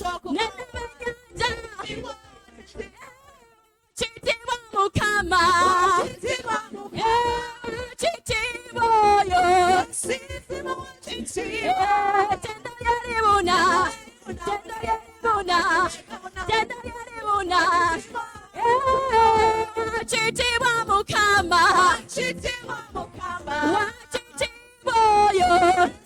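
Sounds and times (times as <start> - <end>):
person singing unaccompanied: 0.0 - 26.0.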